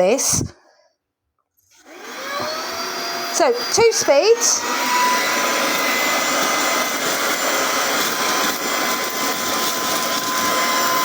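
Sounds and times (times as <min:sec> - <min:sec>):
handheld vacuum cleaner whining: 0:01.7 - 0:11.0.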